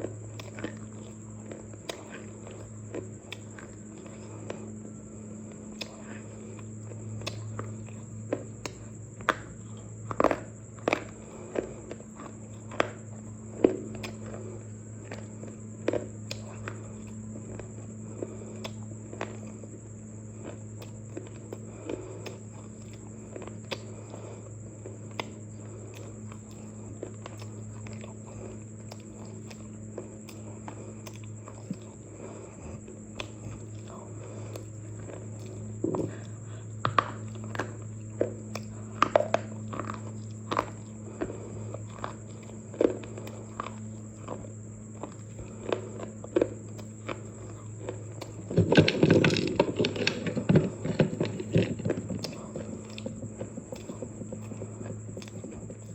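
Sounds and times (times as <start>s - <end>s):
brittle food being chewed: 0.0s - 55.9s
steady low hum: 0.0s - 55.9s.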